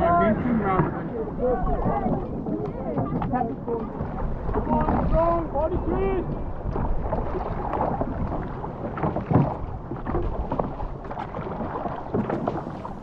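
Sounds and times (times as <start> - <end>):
paddles splashing in water: 0.0 - 13.0
wind buffeting microphone: 0.0 - 13.0.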